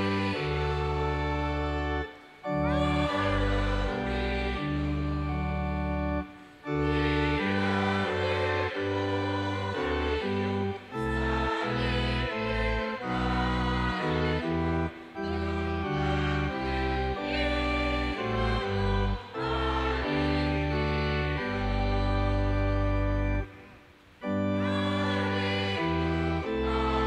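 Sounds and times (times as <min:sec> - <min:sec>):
congregation singing a hymn: 0:00.0 - 0:27.0
organ playing chords: 0:00.0 - 0:27.0.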